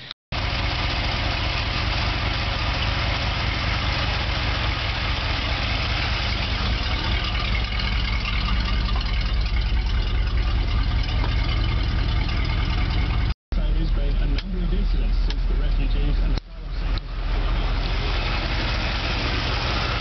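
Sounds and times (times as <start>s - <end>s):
pickup truck engine idling: 0.4s - 20.0s.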